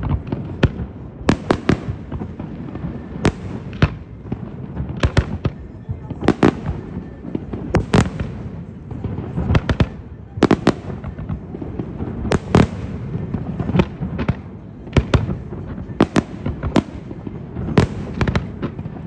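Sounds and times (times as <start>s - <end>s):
rumble and crackle: 0.0s - 19.0s.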